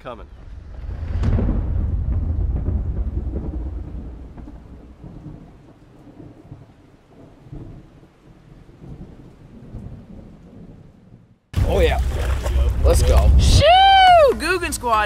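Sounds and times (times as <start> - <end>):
thunder rolling: 0.0 - 14.4
rain falling: 0.0 - 15.0.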